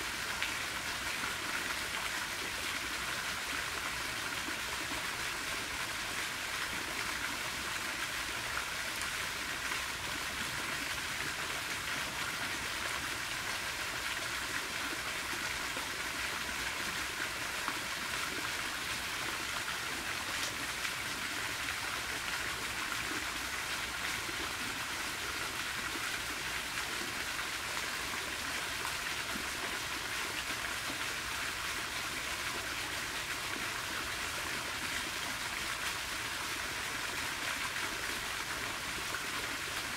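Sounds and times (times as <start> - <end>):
fountain water splashing into pond: 0.0 - 39.9.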